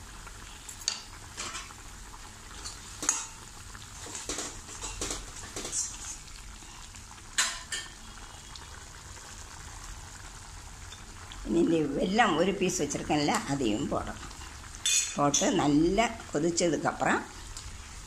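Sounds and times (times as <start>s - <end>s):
gravy bubbling: 0.0s - 18.0s.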